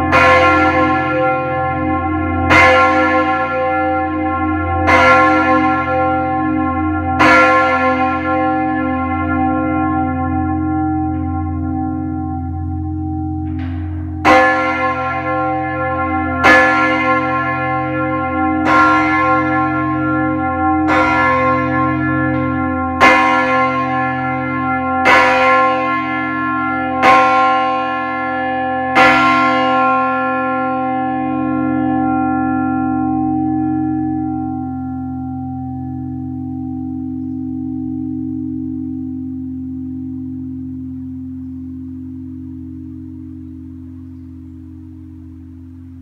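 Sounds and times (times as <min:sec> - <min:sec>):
deep bell hum: 0:00.0 - 0:46.0
large church bell striking: 0:00.0 - 0:46.0.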